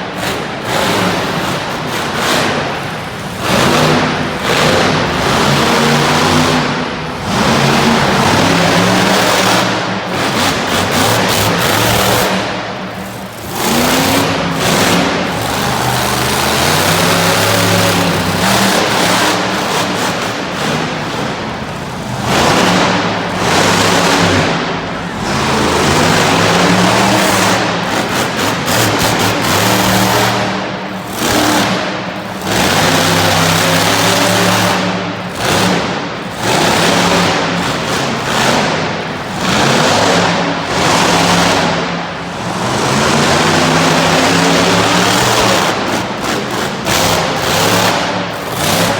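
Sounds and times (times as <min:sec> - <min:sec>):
monster truck engine revving: 0:00.0 - 0:48.9.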